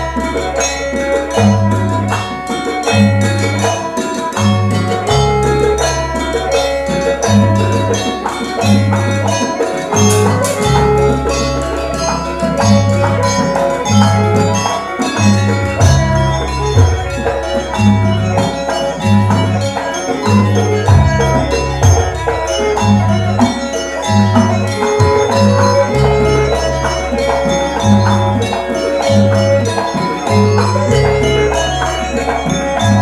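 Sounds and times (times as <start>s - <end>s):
mallet-struck percussion ensemble: 0.0s - 33.0s
repeating drum pattern: 0.0s - 33.0s.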